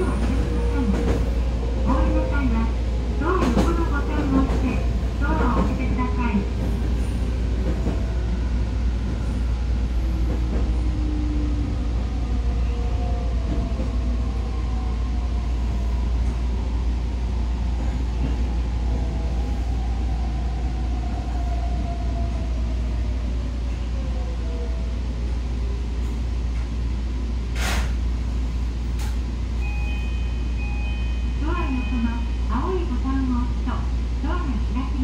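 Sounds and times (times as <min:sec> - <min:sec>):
train wheels rumbling on rail: 0:00.0 - 0:30.2.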